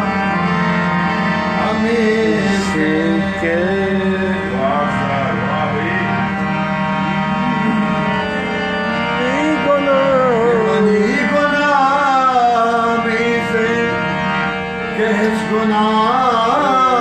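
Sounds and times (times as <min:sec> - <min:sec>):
harmonium melody over drone: 0:00.0 - 0:17.0.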